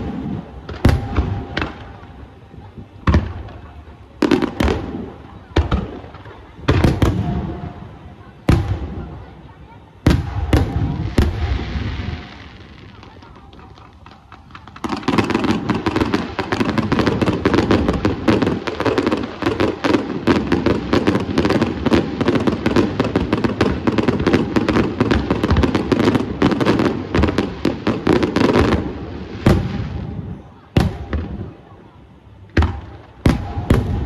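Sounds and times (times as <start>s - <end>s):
fireworks crackling bursts: 0.0s - 34.0s.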